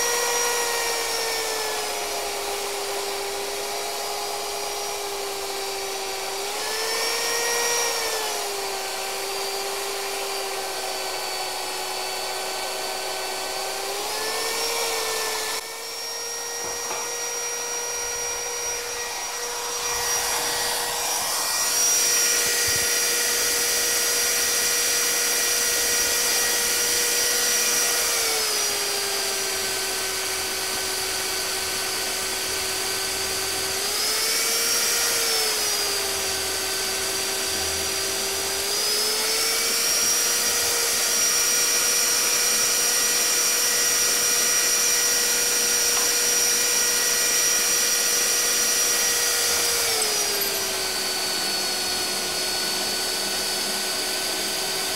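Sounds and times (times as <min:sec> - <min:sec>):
drill press motor whine: 0:00.0 - 0:54.9.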